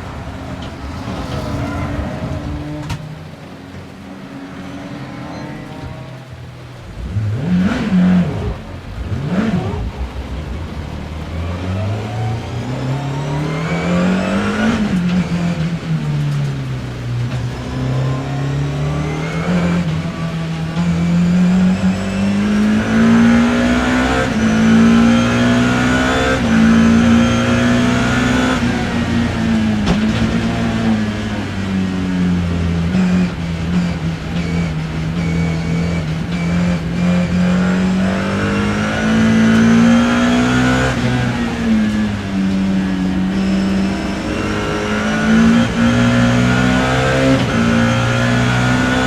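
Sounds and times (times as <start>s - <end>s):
racing car engine revving: 0.0s - 49.0s.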